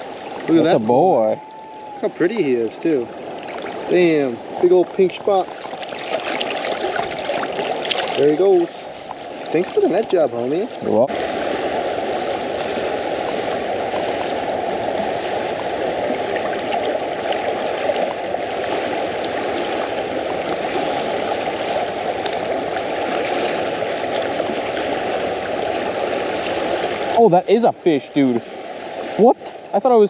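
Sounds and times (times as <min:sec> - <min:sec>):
river current rushing: 0:00.0 - 0:30.0.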